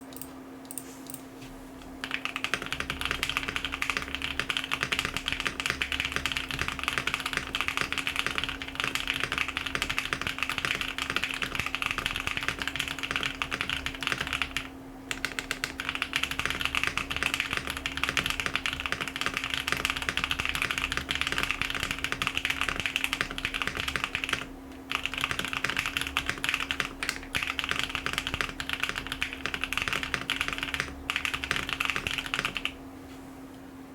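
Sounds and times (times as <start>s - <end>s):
mechanical keyboard typing: 2.0s - 32.8s.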